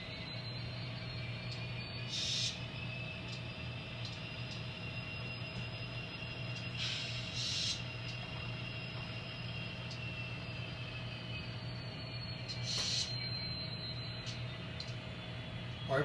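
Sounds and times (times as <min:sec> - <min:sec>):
model locomotive humming: 0:00.0 - 0:16.0.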